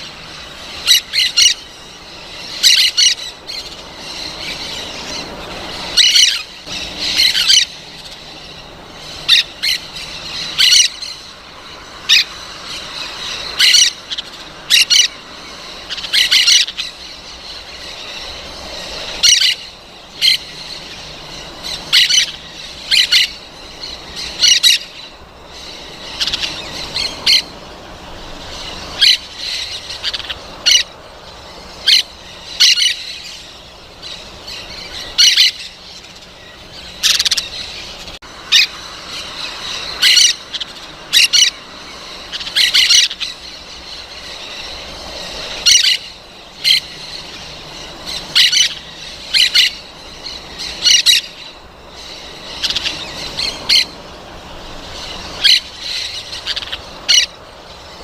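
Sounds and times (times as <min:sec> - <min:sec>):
parrots squawking: 0:00.0 - 0:58.0
steady background noise: 0:00.0 - 0:58.0.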